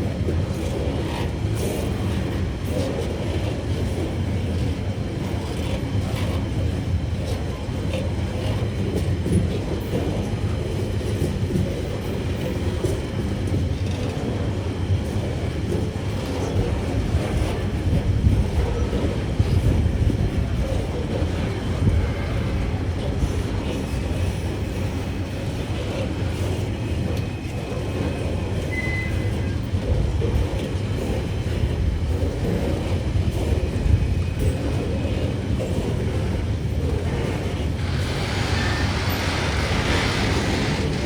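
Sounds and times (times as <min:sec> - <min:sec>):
freight train wheels rumbling: 0:00.0 - 0:41.0.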